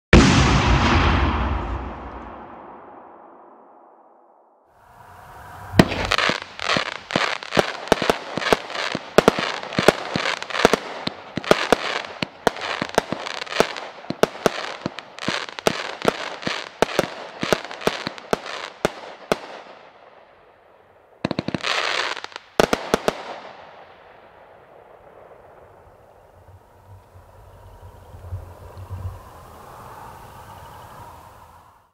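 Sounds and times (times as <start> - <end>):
firework bangs and crackle: 0.1 - 4.0, 4.7 - 20.4, 21.1 - 31.6.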